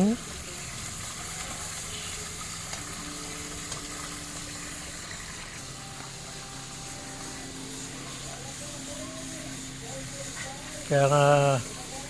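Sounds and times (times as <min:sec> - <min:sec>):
water hissing from pipe leak: 0:00.0 - 0:12.0.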